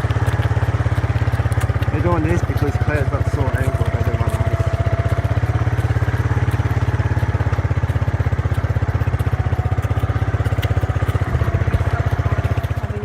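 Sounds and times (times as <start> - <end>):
small bike engine putter: 0.0 - 13.0.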